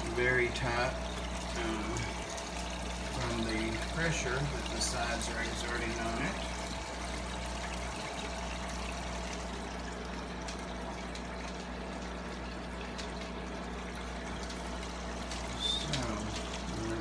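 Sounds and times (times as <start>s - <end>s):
steady low hum: 0.0s - 17.0s
water pouring into aquarium: 0.0s - 17.0s.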